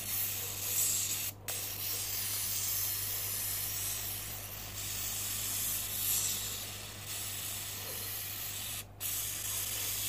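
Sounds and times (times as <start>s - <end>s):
aerosol can spraying hiss: 0.0s - 10.0s.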